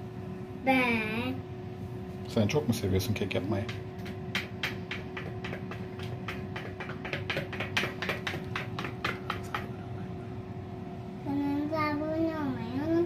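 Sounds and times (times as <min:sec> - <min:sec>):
air fryer fan hum: 0:00.0 - 0:13.0.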